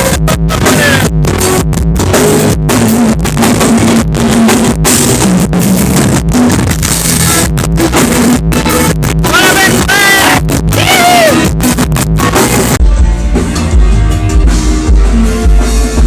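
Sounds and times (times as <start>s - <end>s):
band playing with drum kit: 0.0s - 16.0s.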